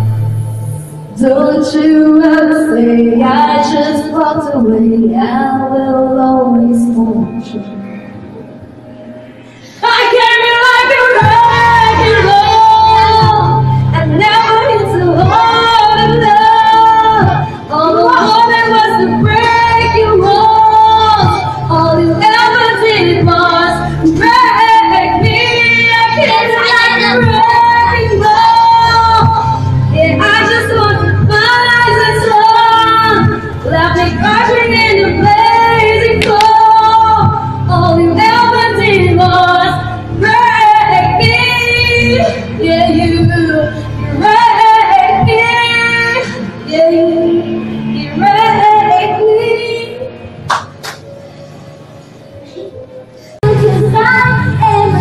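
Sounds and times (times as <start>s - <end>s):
pop music with woman singing: 1.2s - 7.8s, 9.6s - 50.2s, 53.4s - 55.0s.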